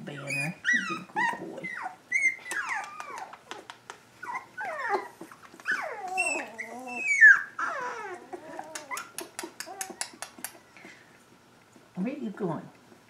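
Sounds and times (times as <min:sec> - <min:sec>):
puppies whining and squealing: 0:00.0 - 0:11.1.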